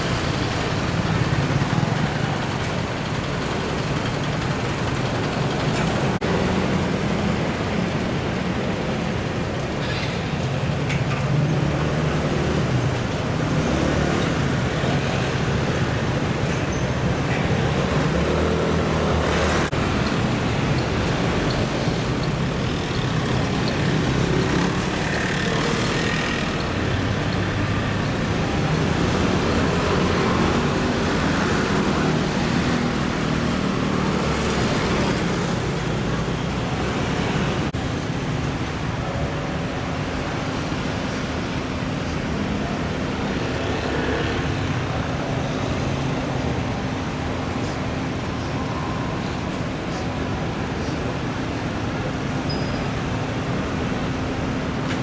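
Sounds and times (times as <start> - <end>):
traffic passing and idling: 0.0 - 55.0.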